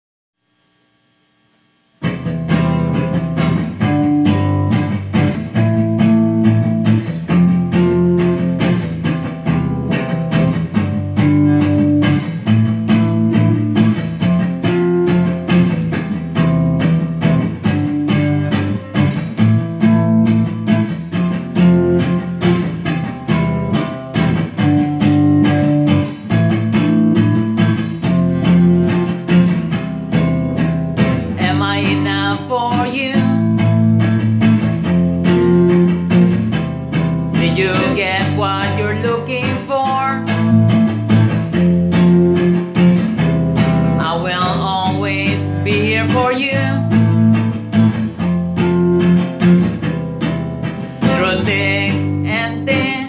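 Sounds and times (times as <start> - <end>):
guitar music with steady beat: 1.6 - 53.0.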